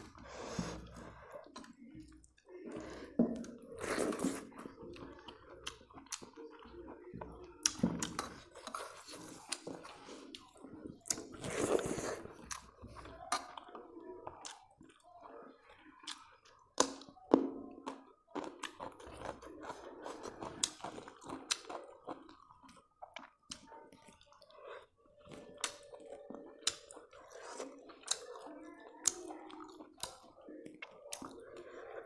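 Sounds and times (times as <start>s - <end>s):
person chewing with mouth smacks: 0.0s - 15.1s, 15.9s - 32.0s.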